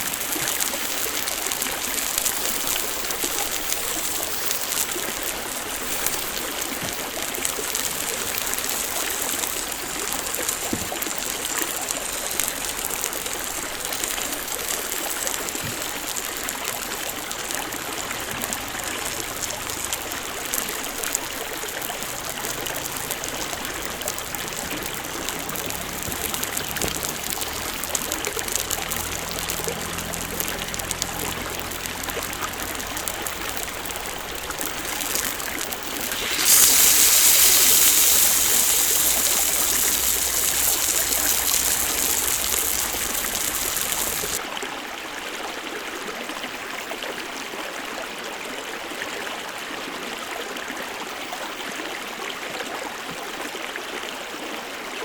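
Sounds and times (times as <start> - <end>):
campfire crackling: 0.0 - 44.4
meat sizzling on grill: 0.0 - 44.4
steady hiss: 0.0 - 44.4.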